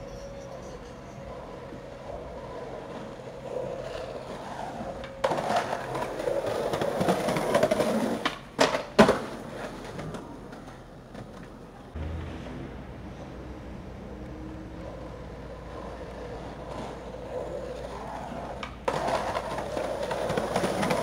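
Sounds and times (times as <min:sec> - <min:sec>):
skateboard wheels rolling on pavement: 0:00.0 - 0:21.0
skateboard clacking on ground: 0:01.2 - 0:12.3, 0:14.9 - 0:21.0.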